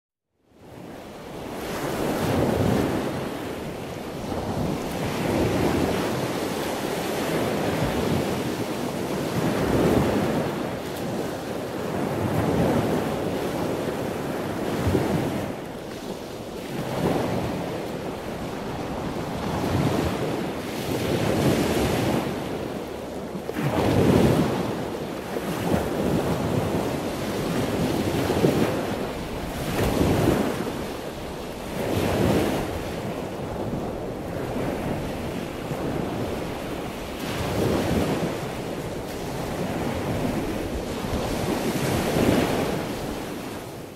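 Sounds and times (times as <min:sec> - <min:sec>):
ocean waves washing in: 0:00.6 - 0:43.9.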